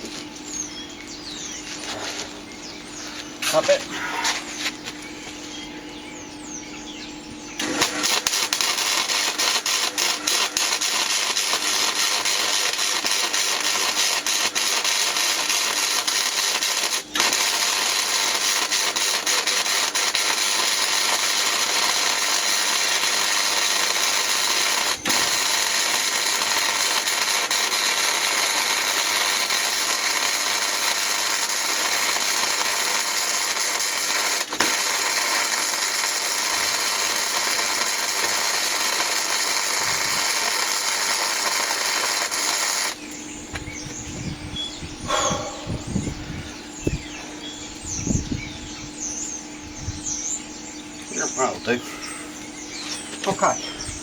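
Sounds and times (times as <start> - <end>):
electric arc welder crackling hiss: 0.0 - 0.5, 1.4 - 5.5, 7.6 - 54.0.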